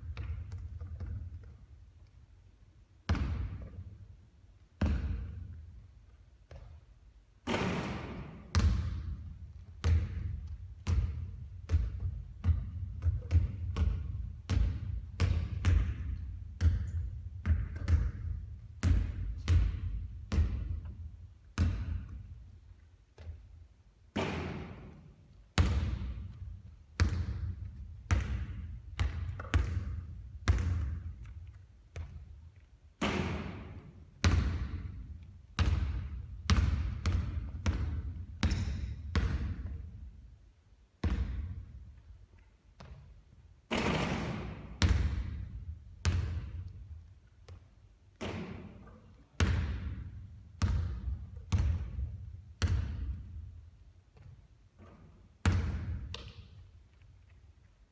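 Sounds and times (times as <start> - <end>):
basketball bouncing on a court: 0.0 - 1.7, 3.1 - 4.0, 4.8 - 5.8, 6.5 - 22.5, 23.2 - 40.2, 41.0 - 42.0, 42.8 - 56.7.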